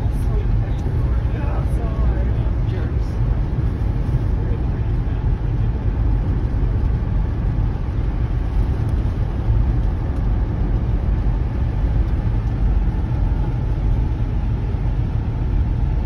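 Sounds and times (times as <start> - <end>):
vehicle cabin road rumble: 0.0 - 16.0.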